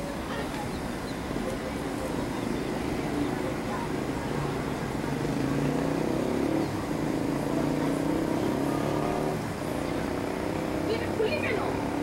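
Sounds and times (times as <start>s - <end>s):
vehicle engine running: 0.8s - 12.0s.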